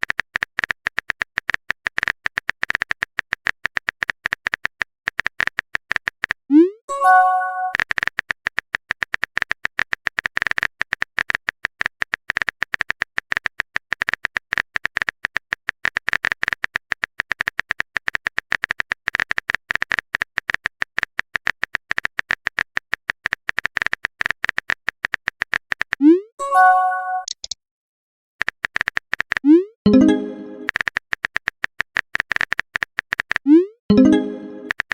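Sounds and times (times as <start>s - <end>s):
phone keyboard typing clicks: 0.0s - 6.5s, 7.6s - 26.0s, 27.2s - 27.6s, 28.4s - 34.9s.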